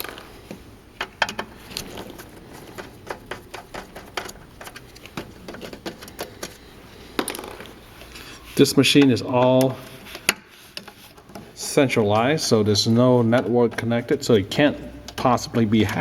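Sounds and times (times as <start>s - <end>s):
metal parts handled: 0.0s - 16.0s.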